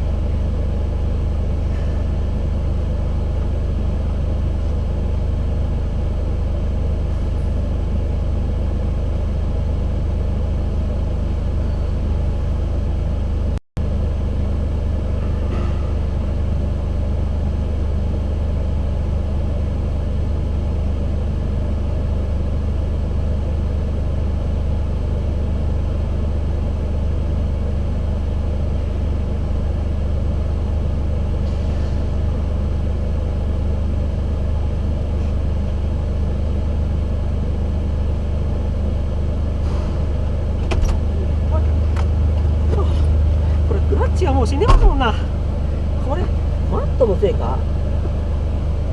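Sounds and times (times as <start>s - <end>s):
car engine idling: 0.0s - 31.4s, 32.1s - 48.9s.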